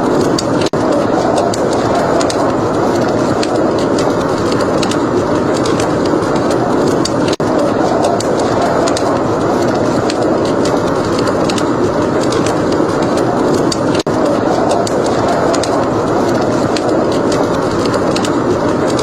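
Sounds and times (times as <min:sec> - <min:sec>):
steady rushing noise: 0:00.0 - 0:19.0
wood fire crackling: 0:00.0 - 0:19.0.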